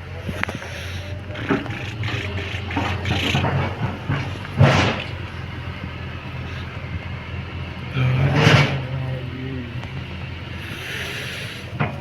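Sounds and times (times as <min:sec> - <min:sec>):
excavator diesel engine running: 0:00.0 - 0:12.0
loud engine bursts: 0:00.0 - 0:12.0.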